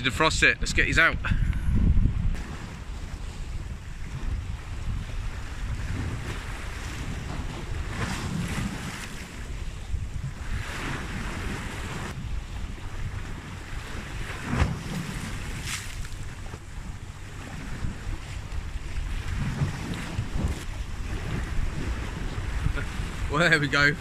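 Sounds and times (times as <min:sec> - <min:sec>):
wind buffeting microphone: 0:00.0 - 0:24.0
sea waves washing: 0:01.1 - 0:24.0.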